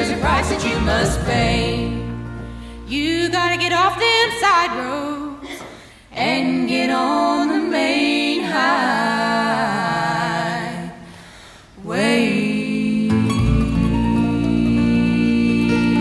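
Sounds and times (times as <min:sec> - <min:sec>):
women singing vocal harmony: 0:00.0 - 0:16.0.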